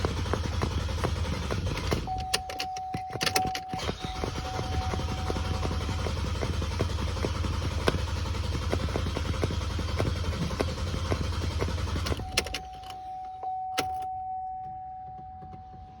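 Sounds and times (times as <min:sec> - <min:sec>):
sharp clicks: 0:00.0 - 0:13.0
starter cranking engine: 0:00.0 - 0:13.1.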